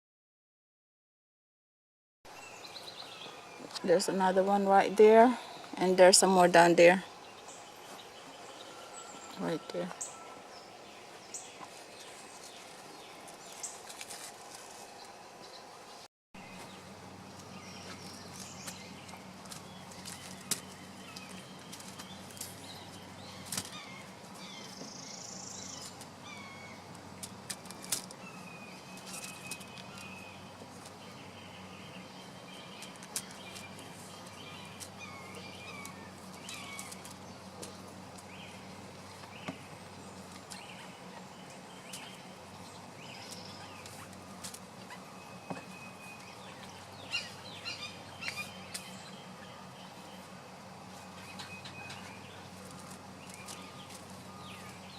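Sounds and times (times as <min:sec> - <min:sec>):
small birds chirping: 0:02.3 - 0:54.9
steady low hum: 0:02.4 - 0:54.9.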